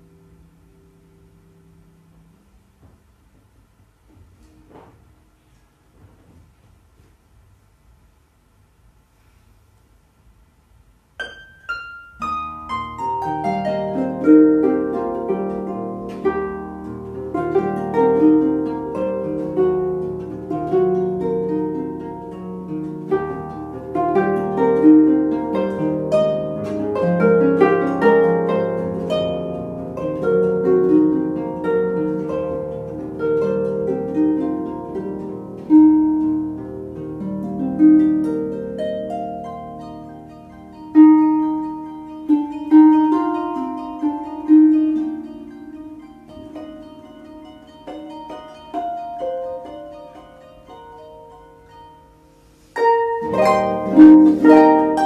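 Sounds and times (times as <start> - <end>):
harp playing: 0.0 - 3.4, 11.1 - 55.0.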